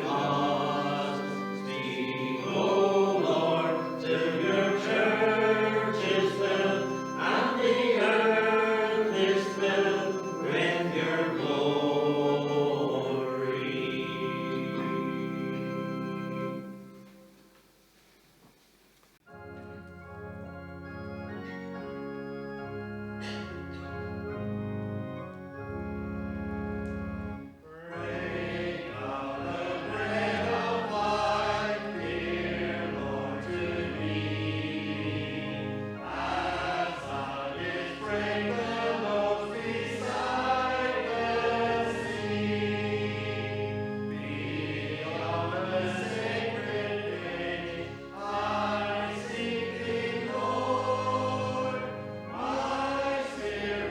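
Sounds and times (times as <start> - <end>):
congregation singing a hymn: 0.0 - 17.4, 20.2 - 53.9
organ playing held chords: 0.0 - 18.0, 19.2 - 53.9.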